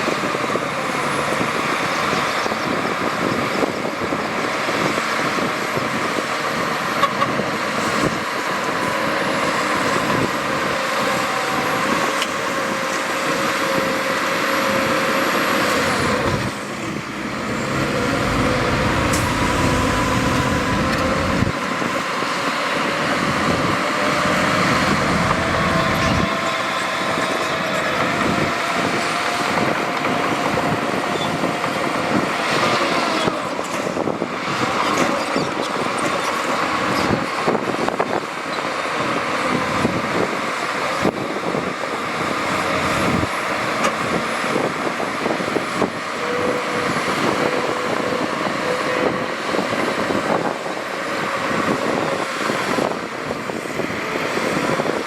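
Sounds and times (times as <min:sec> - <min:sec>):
diesel machinery engine whining: 0:00.0 - 0:55.0.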